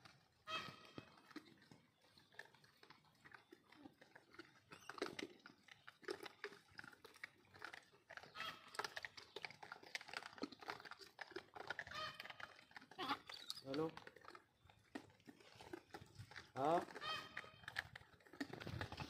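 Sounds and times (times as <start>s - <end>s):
monkeys crunching food: 0.0s - 19.0s.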